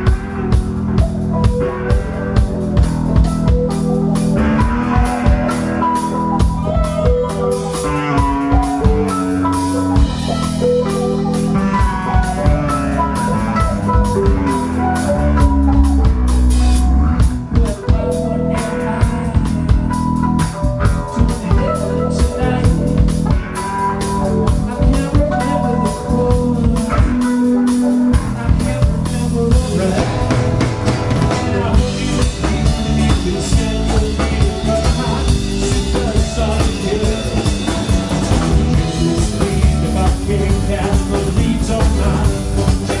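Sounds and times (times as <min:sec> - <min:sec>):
drum kit: 0:00.0 - 0:43.0
electric bass guitar: 0:00.0 - 0:43.0.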